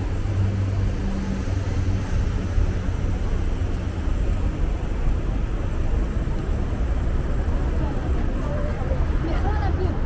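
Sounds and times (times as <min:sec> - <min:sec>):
city street traffic rumble: 0:00.0 - 0:10.0.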